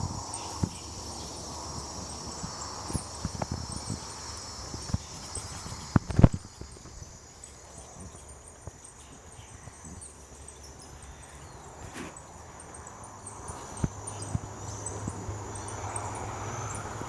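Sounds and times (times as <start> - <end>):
high-pitched insect drone: 0.0 - 11.8, 12.5 - 17.0.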